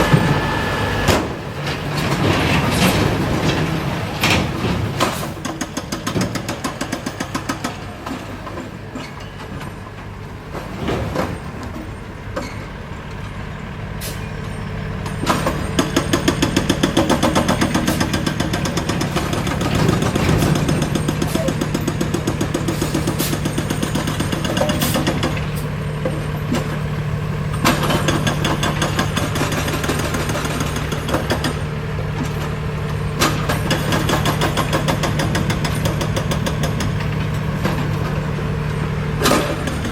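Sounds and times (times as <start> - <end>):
heavy machinery engines running: 0.0 - 39.9.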